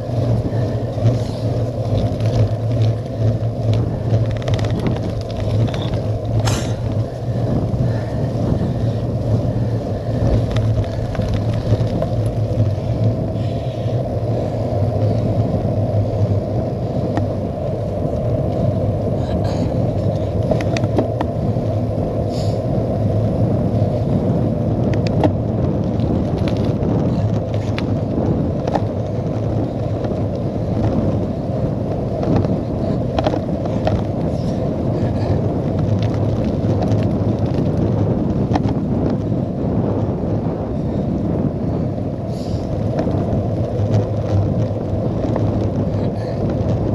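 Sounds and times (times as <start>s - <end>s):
bike clicks and knocks over bumps: 0.0s - 46.9s
bike tyres rolling on wet tarmac: 0.0s - 46.9s
wind rumble on microphone: 0.0s - 46.9s.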